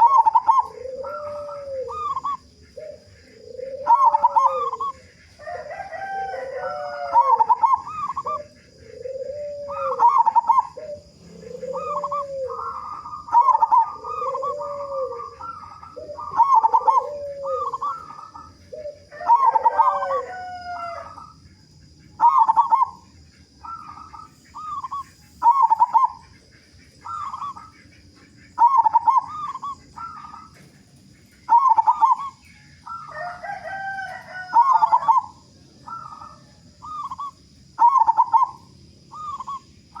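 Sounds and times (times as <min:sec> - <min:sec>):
doves cooing: 0:00.0 - 0:40.0.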